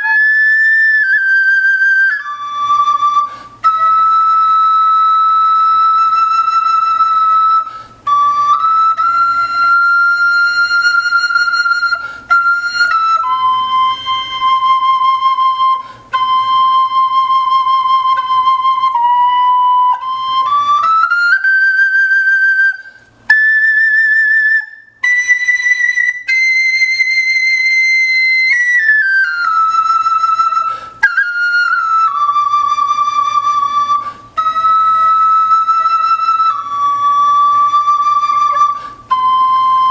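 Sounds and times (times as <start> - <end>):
wooden flute slow melody: 0.0 - 39.9.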